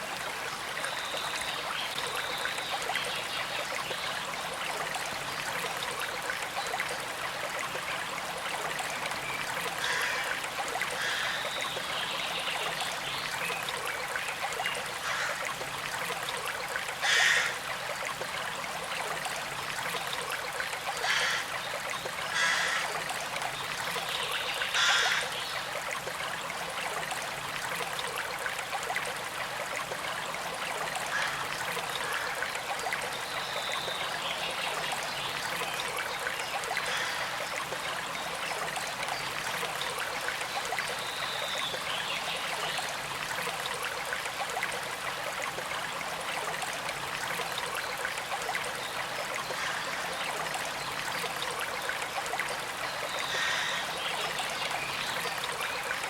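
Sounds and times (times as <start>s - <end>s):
creek flowing: 0.0s - 56.0s
water splashes and gurgles: 0.0s - 56.0s.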